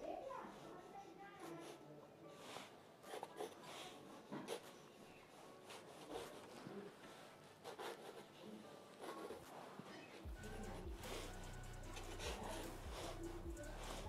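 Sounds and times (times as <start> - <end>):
pencil scratching on paper: 0.4 - 14.0.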